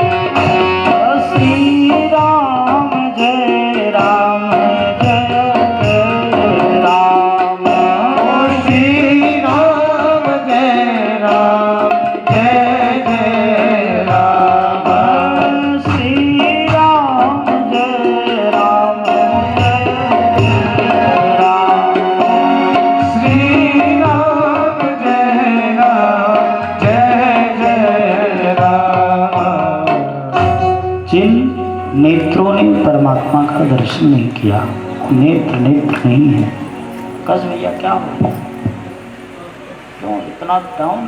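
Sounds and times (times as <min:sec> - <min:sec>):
sustained melodic accompaniment: 0:00.0 - 0:41.0
tabla playing a rhythm: 0:00.0 - 0:41.0.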